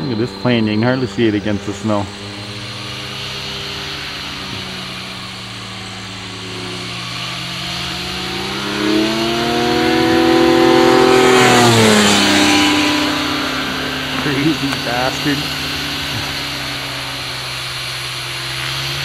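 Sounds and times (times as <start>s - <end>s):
light aircraft engine and propeller: 0.0s - 19.0s.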